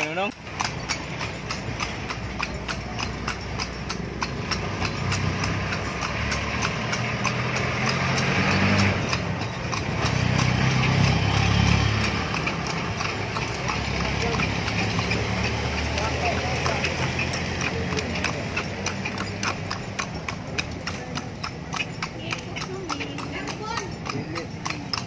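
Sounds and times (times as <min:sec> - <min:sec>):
horse hooves clip-clopping on asphalt: 0:00.0 - 0:25.0.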